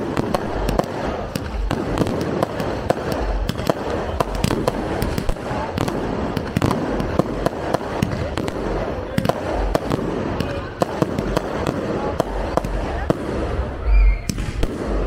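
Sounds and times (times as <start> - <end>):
continuous rumble: 0.0 - 15.0
fireworks pops and crackles: 0.0 - 15.0.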